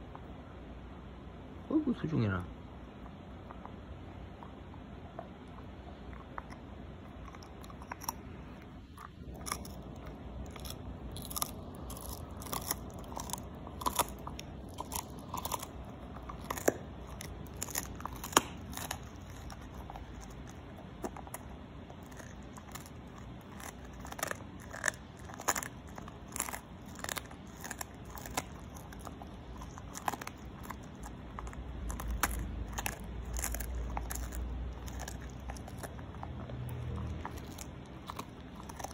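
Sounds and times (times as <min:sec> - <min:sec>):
dog chewing crunchy food: 0:02.8 - 0:38.9.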